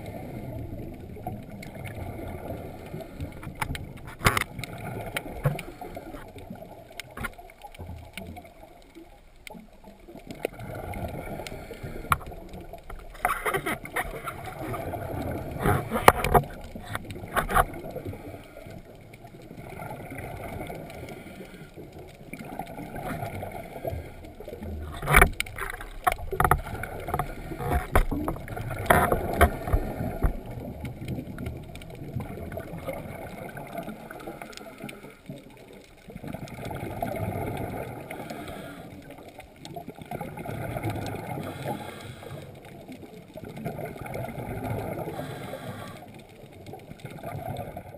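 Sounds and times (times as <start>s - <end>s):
diver bubbles gurgling underwater: 0.0s - 47.9s.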